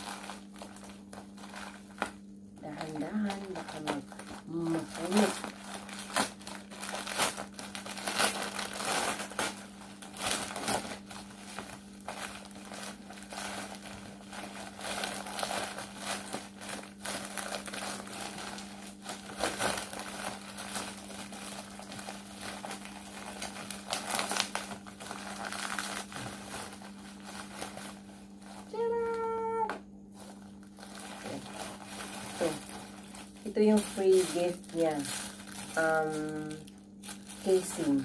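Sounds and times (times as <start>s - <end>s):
plastic packaging crinkling: 0.0s - 38.0s.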